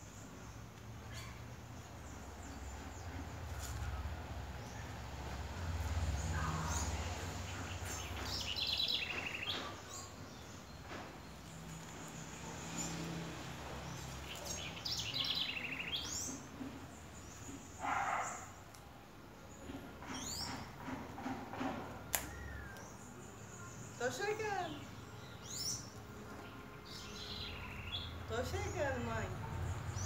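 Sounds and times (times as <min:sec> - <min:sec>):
songbirds chirping in trills: 0:00.0 - 0:30.0.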